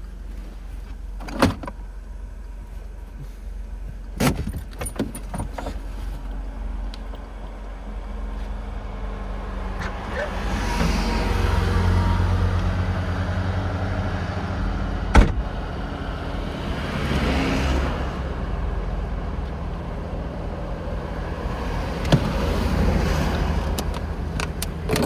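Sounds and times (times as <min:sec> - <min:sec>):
car engine idling: 0:00.0 - 0:25.0
road noise: 0:00.0 - 0:25.0.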